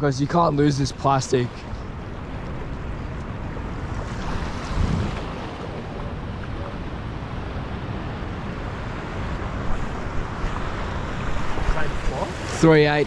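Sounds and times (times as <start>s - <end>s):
ocean wash: 0.0s - 13.0s
wind on microphone: 1.6s - 13.0s.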